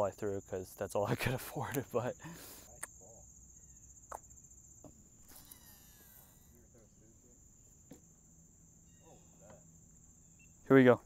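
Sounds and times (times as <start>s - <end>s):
crickets chirring: 0.0s - 11.0s
high-pitched insect chorus: 0.0s - 11.0s.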